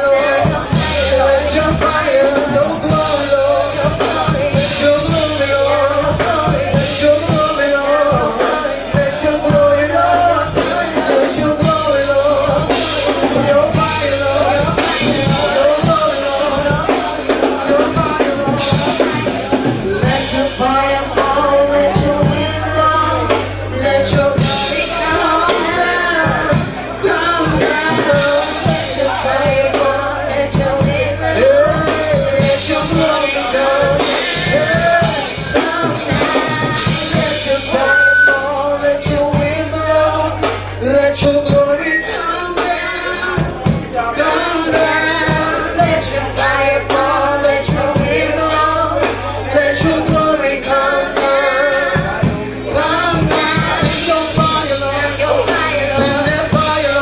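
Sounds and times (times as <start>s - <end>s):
bass: 0.0s - 57.0s
drum kit: 0.0s - 57.0s
held keyboard or organ tone: 0.0s - 57.0s
person singing: 0.0s - 57.0s.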